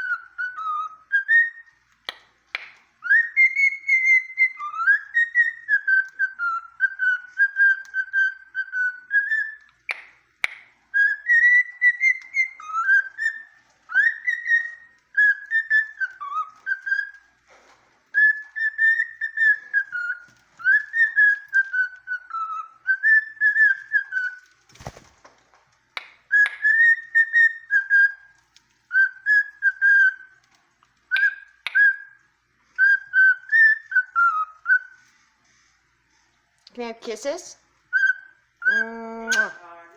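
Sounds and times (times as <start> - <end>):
cockatiel whistling: 0.0 - 2.2, 3.0 - 24.5, 26.0 - 30.4, 31.1 - 35.1, 37.9 - 39.6.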